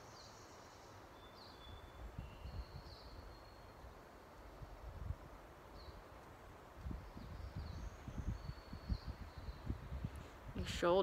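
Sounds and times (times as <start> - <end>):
faint woodland ambience: 0.0 - 11.0.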